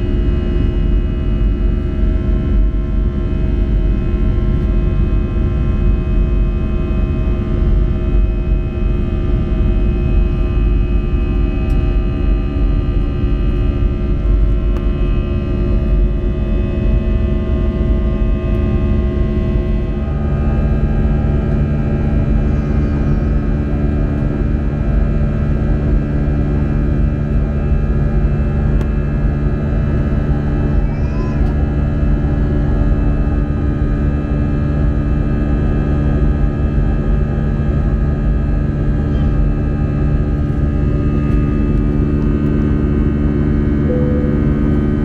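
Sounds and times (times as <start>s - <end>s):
airplane cabin engine drone: 0.0s - 45.0s.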